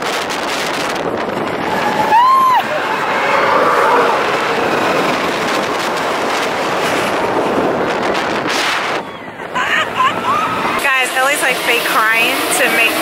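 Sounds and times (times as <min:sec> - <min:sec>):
roller coaster running on track: 0:00.0 - 0:13.0
wind buffeting microphone: 0:00.0 - 0:13.0.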